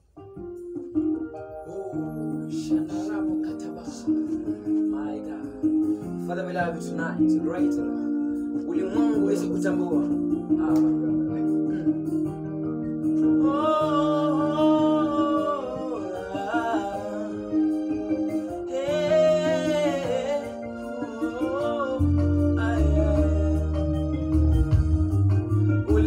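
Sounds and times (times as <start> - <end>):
held instrumental chords: 0.0 - 26.0
man singing gospel: 1.6 - 12.4, 13.1 - 24.9, 25.7 - 26.0.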